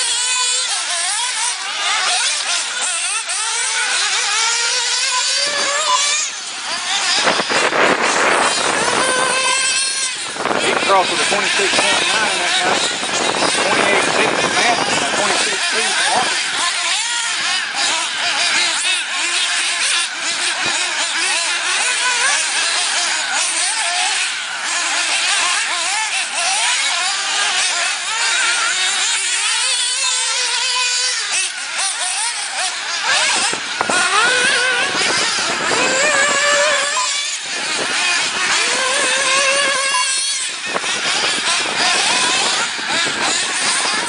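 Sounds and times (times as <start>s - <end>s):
rc car engines buzzing: 0.0s - 44.0s.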